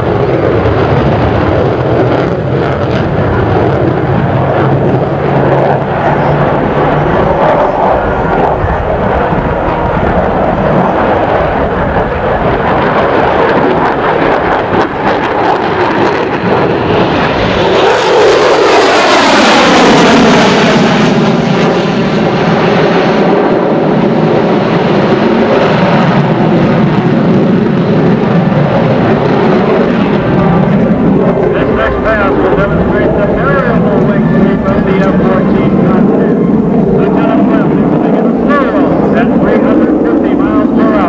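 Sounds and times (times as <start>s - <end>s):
jet engines passing: 0.0s - 41.0s.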